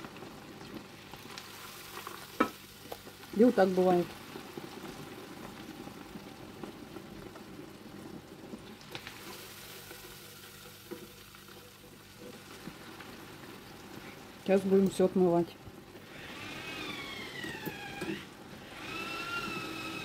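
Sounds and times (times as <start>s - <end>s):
oil sizzling and bubbling: 0.0s - 20.0s.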